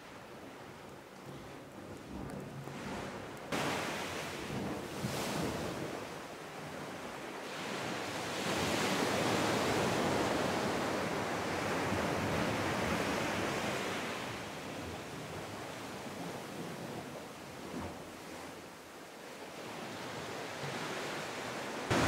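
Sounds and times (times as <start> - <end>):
ocean waves on beach: 0.0 - 22.0.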